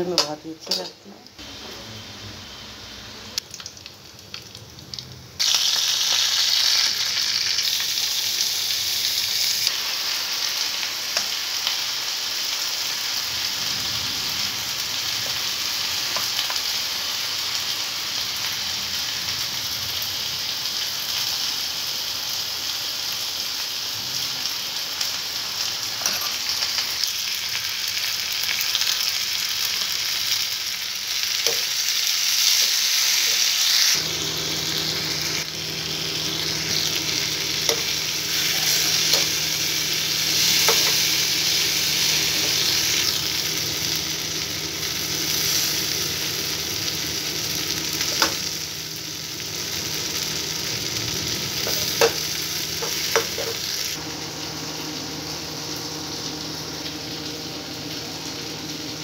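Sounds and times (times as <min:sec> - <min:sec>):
onions and potatoes sizzling in oil: 0:00.0 - 0:59.0.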